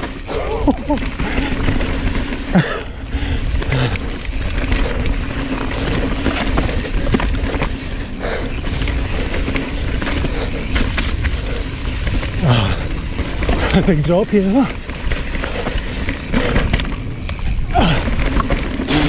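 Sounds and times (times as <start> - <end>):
bike rattling and knocking: 0.0 - 19.0
tyres on loose stones: 0.0 - 19.0.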